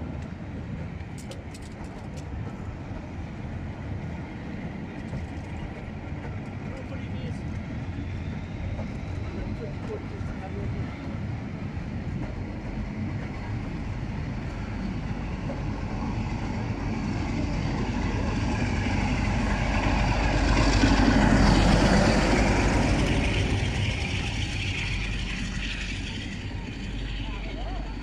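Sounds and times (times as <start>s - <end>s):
train wheels rolling on rails: 0.0s - 28.0s.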